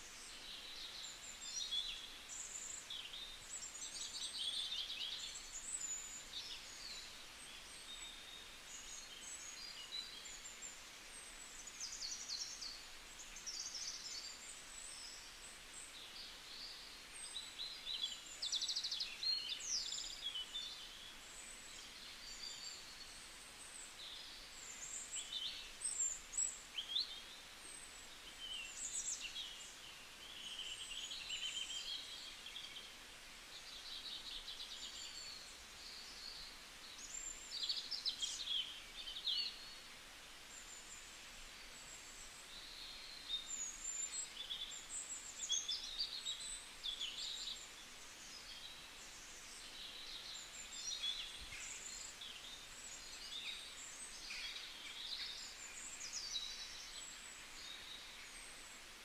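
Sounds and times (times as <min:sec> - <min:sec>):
faint hiss: 0:00.0 - 0:59.0.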